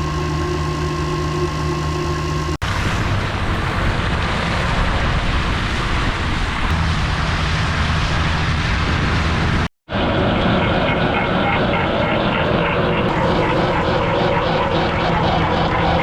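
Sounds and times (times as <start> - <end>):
low engine drone: 0.0 - 16.0
loud rushing noise: 2.5 - 16.0.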